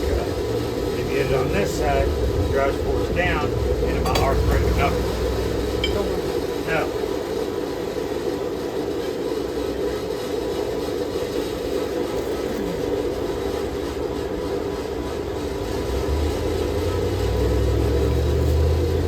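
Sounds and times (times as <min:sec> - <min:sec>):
forge rushing noise: 0:00.0 - 0:19.0.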